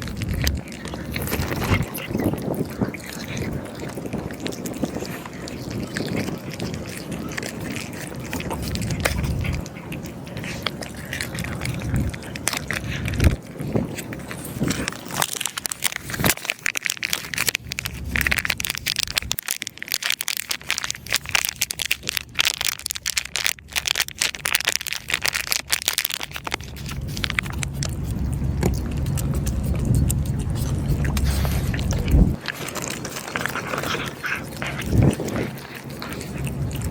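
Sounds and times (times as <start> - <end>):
low wind rumble: 0.0 - 16.4, 20.8 - 36.9
cat crunching dry food: 0.0 - 36.9.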